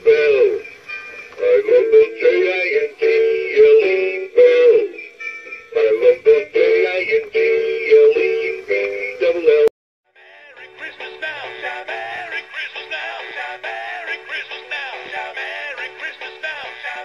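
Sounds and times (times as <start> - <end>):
toy figure singing christmas song: 0.0 - 17.0.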